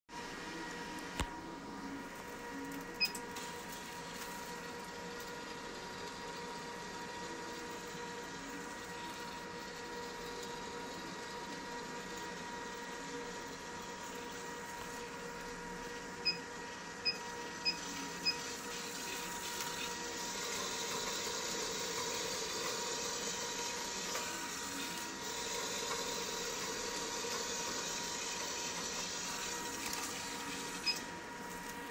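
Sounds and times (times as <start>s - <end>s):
motor humming: 0.3s - 31.9s.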